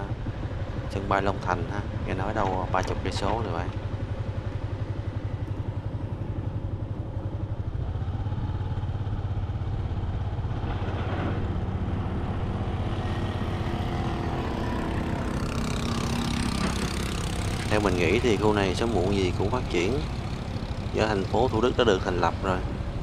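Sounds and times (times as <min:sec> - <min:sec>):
motorbike engine running: 0:00.0 - 0:23.0.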